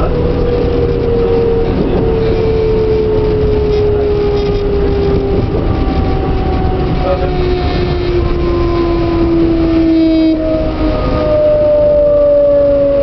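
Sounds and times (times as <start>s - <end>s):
train motor whine: 0.0s - 13.0s
wheels rumbling on track: 0.0s - 13.0s.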